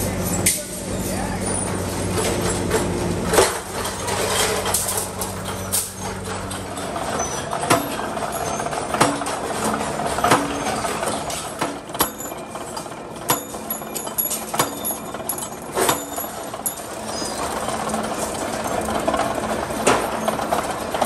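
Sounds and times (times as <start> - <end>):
machine metal clanks: 0.2 - 21.0.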